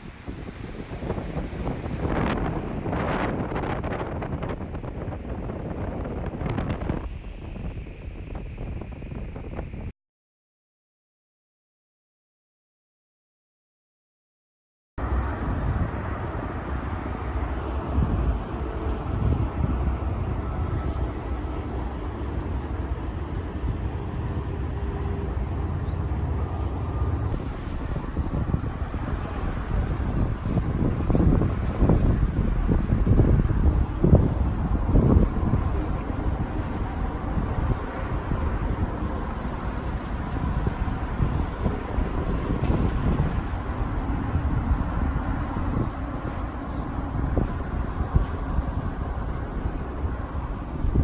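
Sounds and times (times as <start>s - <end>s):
wind buffeting microphone: 0.0s - 9.9s, 15.0s - 51.0s.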